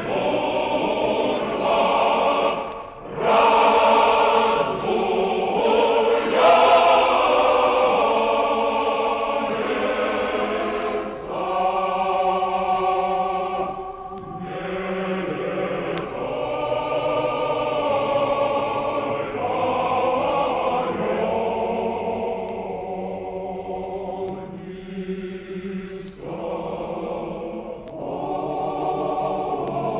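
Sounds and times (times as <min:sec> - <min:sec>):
choir singing chant: 0:00.0 - 0:29.9.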